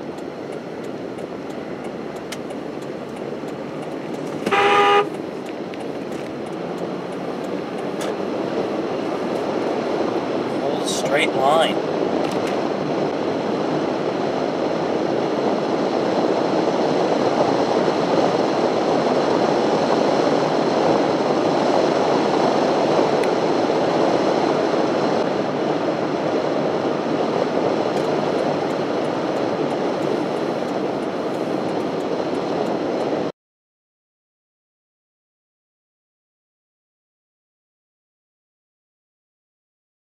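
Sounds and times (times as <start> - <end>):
road and tyre noise inside car: 0.0 - 33.3.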